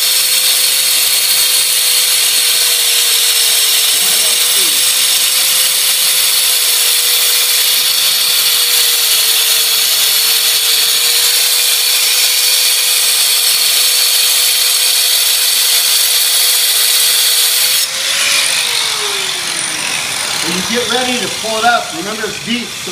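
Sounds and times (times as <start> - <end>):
power saw cutting stone: 0.0 - 22.9.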